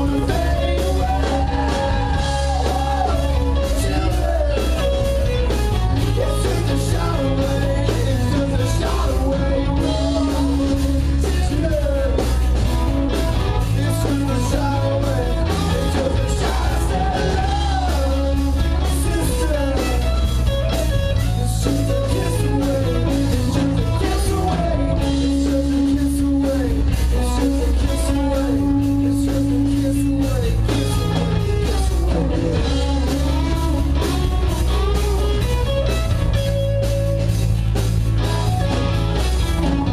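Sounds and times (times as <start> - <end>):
person singing: 0.0 - 36.5
bass guitar: 0.0 - 39.9
electric guitar: 0.0 - 39.9.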